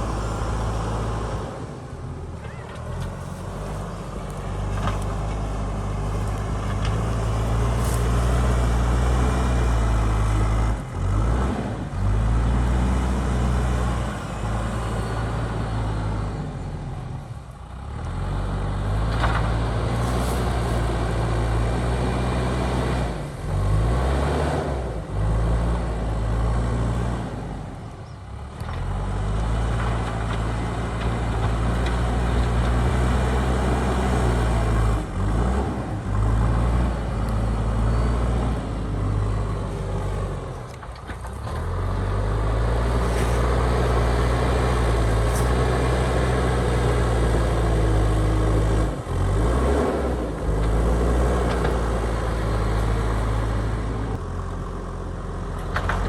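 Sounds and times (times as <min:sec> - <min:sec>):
diesel engine working under load: 0:00.0 - 0:56.0.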